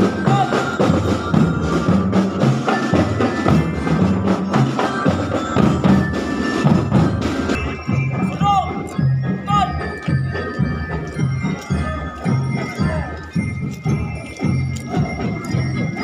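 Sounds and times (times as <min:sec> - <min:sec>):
bell lyres ringing: 0:00.0 - 0:16.0
marching drums: 0:00.0 - 0:16.0.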